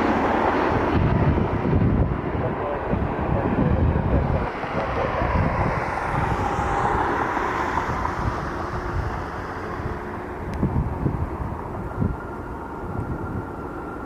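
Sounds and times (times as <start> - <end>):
jet engine rumble and whine: 0.0 - 14.0
wind buffeting microphone: 0.0 - 14.0.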